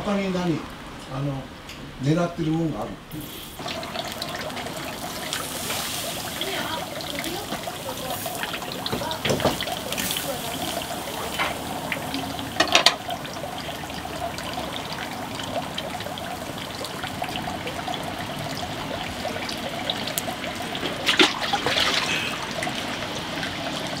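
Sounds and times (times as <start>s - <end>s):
skewers sizzling on charcoal grill: 2.4s - 24.0s.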